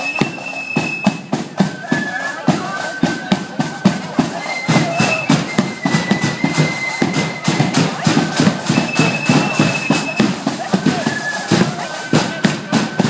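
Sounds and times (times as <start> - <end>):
high flute notes: 0.0 - 13.0
marching drums: 0.0 - 13.0.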